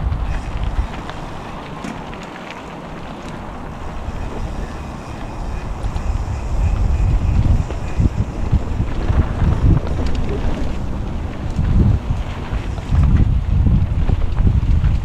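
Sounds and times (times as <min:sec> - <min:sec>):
low rumble: 0:00.0 - 0:15.0
wind buffeting microphone: 0:00.0 - 0:15.0.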